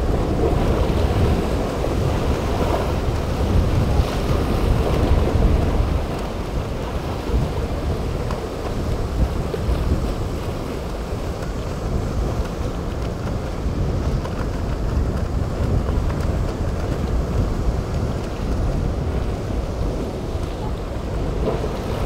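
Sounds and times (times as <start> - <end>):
waves breaking: 0.0 - 22.0
wind buffeting microphone: 0.0 - 22.0.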